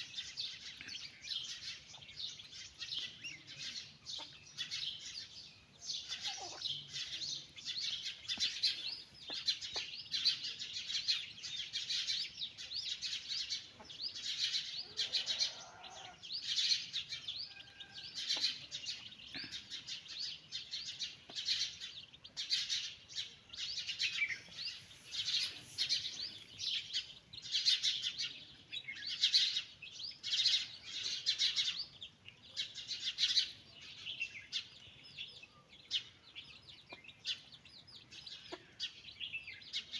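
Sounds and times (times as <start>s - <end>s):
chicks peeping: 0.1s - 39.9s.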